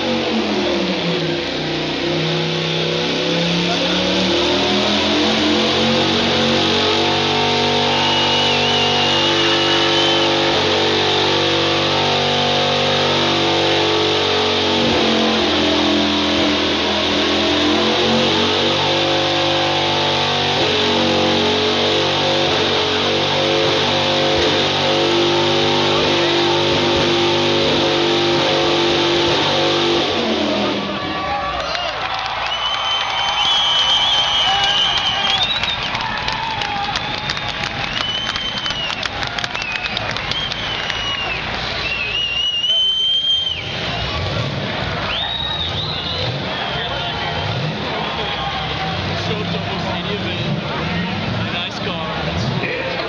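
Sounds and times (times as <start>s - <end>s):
car engine revving high: 0.0s - 31.6s, 32.6s - 53.0s.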